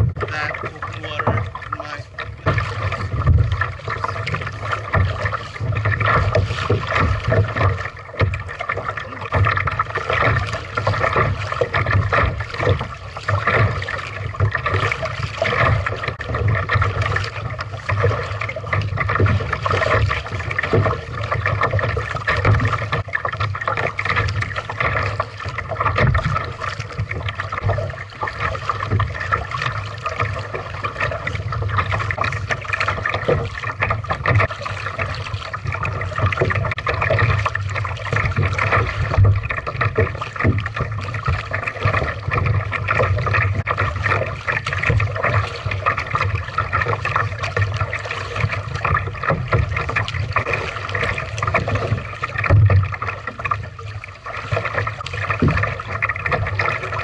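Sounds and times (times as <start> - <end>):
water splashing from paddling: 0.0 - 57.0.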